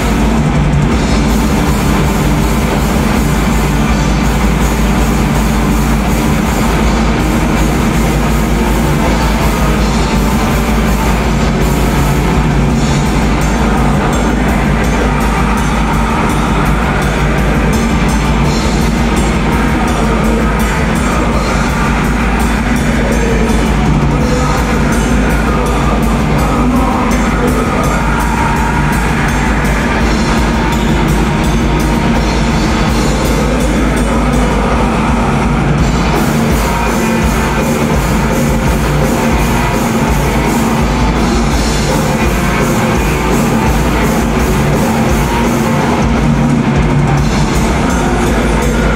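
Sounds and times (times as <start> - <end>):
bass guitar: 0.0 - 48.9
distorted electric guitars: 0.0 - 48.9
fast dense drumming: 0.0 - 48.9.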